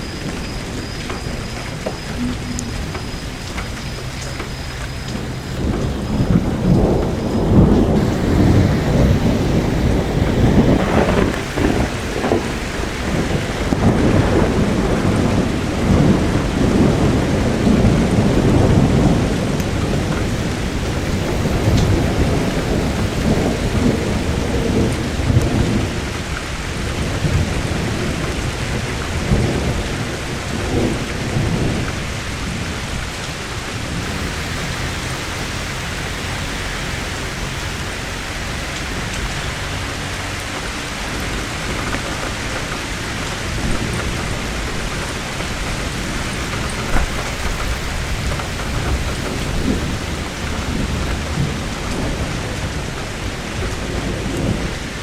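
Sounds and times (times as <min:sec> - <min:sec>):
thunder rumbling: 0:00.0 - 0:33.2, 0:33.9 - 0:55.0
steady rain: 0:00.0 - 0:55.0.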